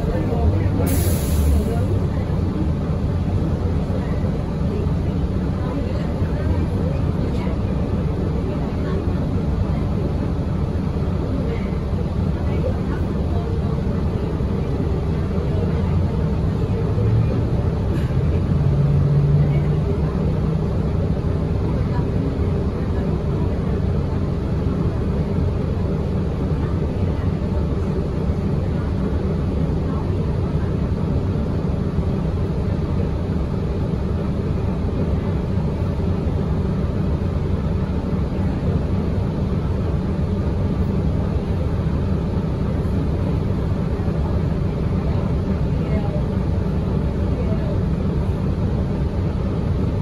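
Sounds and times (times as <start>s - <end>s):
bus engine drone: 0.0s - 50.0s.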